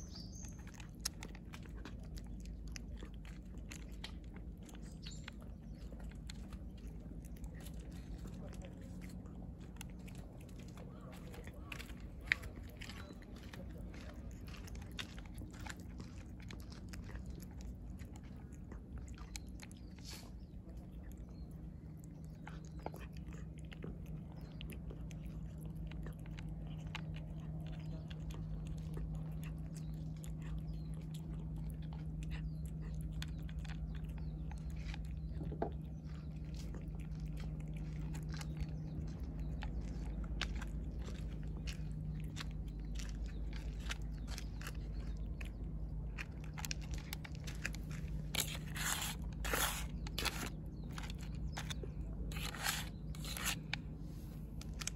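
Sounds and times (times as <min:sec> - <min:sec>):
cat crunching kibble: 0:00.0 - 0:54.9
low hum: 0:00.0 - 0:54.9.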